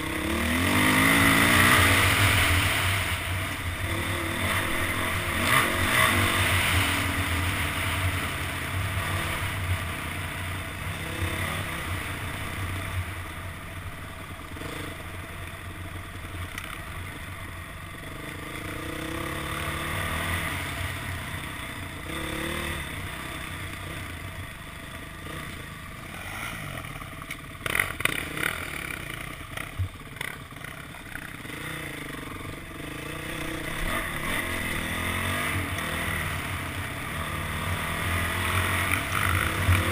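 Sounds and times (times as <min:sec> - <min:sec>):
dirt bike engine revving: 0:00.0 - 0:15.6, 0:16.6 - 0:24.3, 0:24.9 - 0:39.9.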